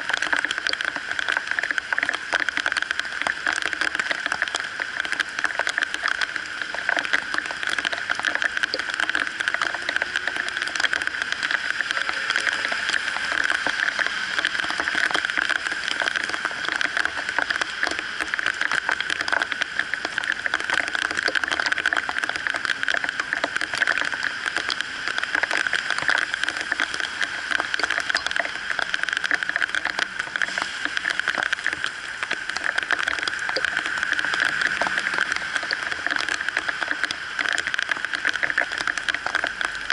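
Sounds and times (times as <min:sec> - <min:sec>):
rain falling on wet street: 0:00.0 - 0:39.9
cars passing on wet road: 0:06.0 - 0:39.9.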